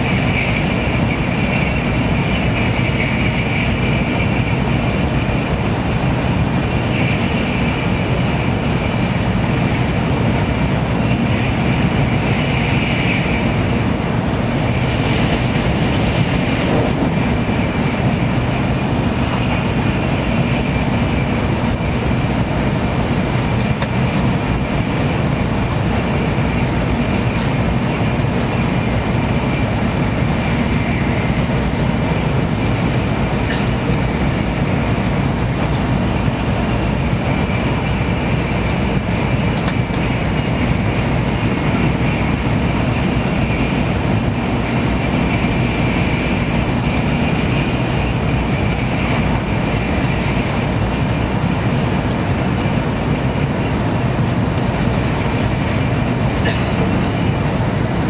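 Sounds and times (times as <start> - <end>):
constant high hum: 0.0 - 58.0
train cabin rumble: 0.0 - 58.0.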